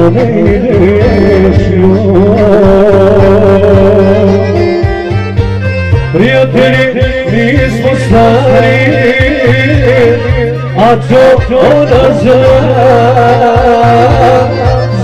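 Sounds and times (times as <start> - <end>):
person singing long notes: 0.0 - 5.1, 6.1 - 15.0
instrumental accompaniment: 0.0 - 15.0.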